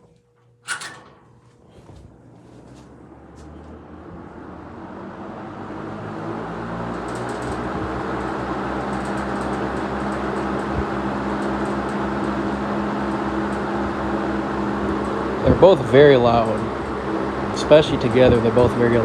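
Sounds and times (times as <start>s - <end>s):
box fans humming: 0.0s - 19.0s.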